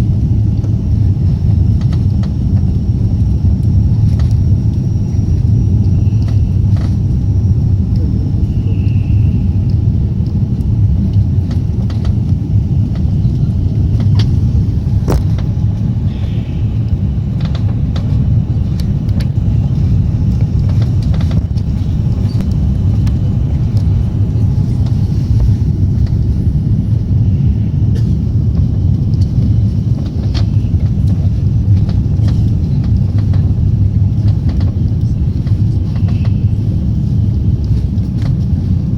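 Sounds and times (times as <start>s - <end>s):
aircraft cabin rumble: 0.0s - 38.9s.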